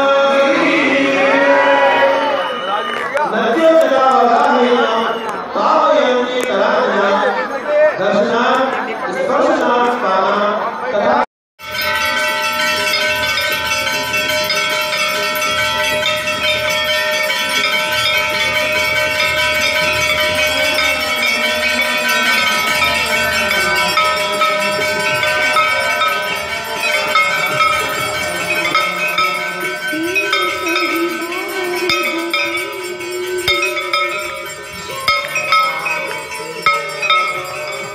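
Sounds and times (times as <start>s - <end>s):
temple bells clanging: 0.0s - 5.5s, 11.6s - 37.9s.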